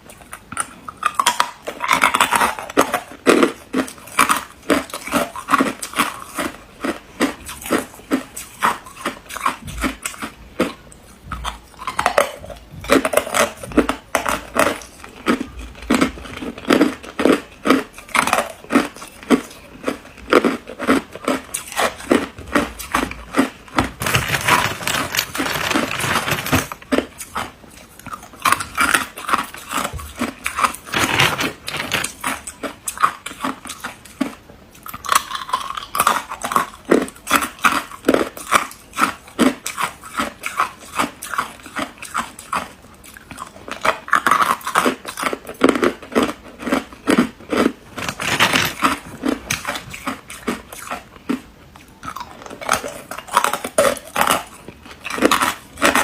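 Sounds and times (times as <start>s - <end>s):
person chewing hard ice: 0.0s - 56.0s.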